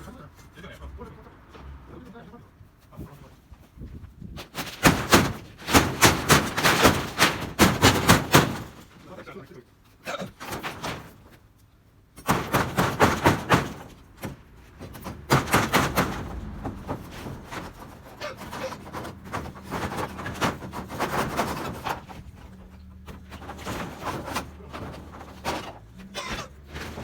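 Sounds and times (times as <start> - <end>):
metal roofing sheets clattering: 4.4 - 27.0.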